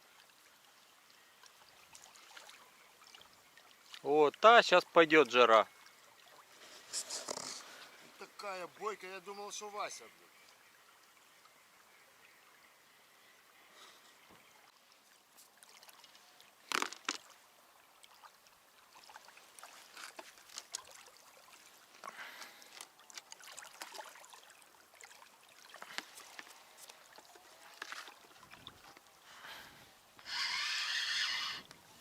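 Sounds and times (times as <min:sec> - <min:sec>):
water splashes and dribbles: 0:00.0 - 0:32.0.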